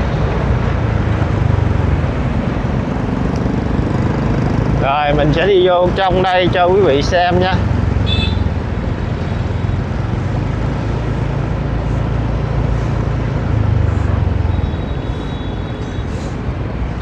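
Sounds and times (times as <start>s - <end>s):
road noise: 0.0s - 17.0s
vehicle engine running: 0.6s - 17.0s.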